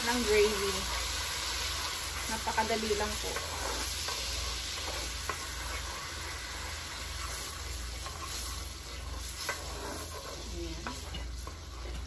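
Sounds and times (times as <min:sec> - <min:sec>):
gravy sizzling in a skillet: 0:00.0 - 0:12.0.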